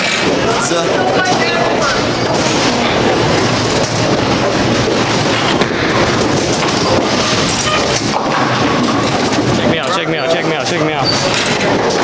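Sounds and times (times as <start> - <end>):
bowling alley din: 0.0 - 12.0
bowling ball rolling: 0.0 - 12.0.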